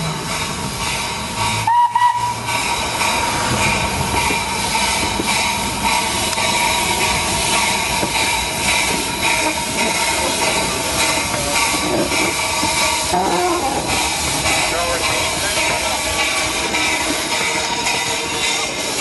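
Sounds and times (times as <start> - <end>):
miniature steam train running: 0.0 - 19.0.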